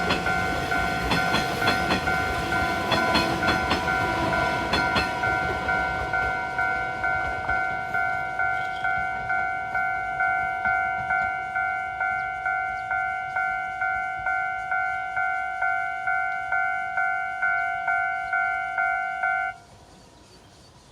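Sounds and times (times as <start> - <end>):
level crossing bell ringing: 0.0 - 19.6.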